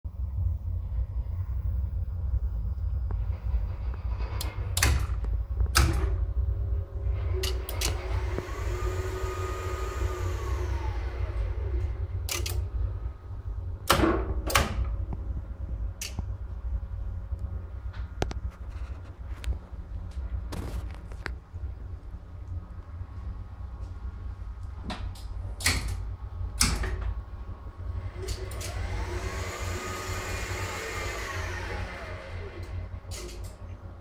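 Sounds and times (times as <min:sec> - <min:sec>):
low hum: 0:00.0 - 0:34.0
lift motor whine: 0:00.2 - 0:24.8, 0:26.1 - 0:34.0.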